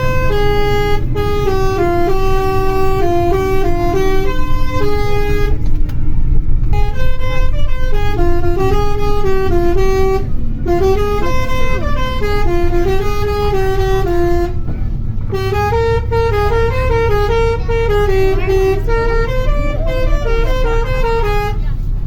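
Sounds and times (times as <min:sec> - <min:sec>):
bus engine low rumble: 0:00.0 - 0:22.0
musical bus horn tune: 0:00.0 - 0:22.0.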